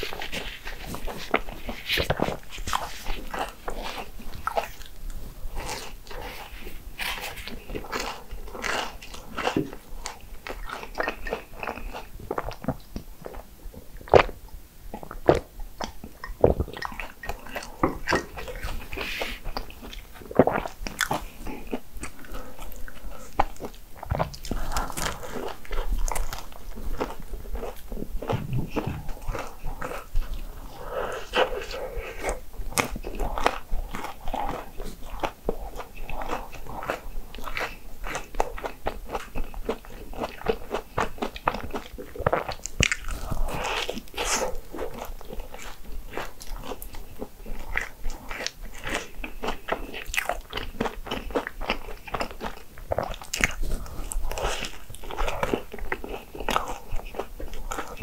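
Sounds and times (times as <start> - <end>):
person chewing crisp waffle: 0.0 - 58.0.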